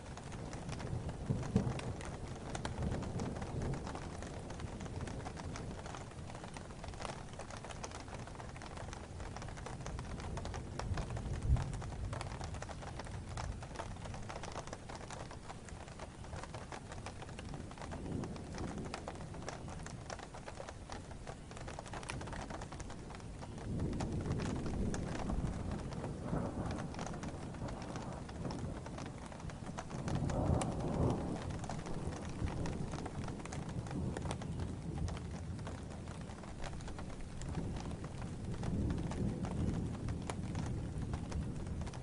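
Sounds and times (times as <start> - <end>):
low thunder rumbles: 0.0 - 42.0
raindrops ticking on a surface: 0.0 - 42.0
steady rain falling: 0.0 - 42.0.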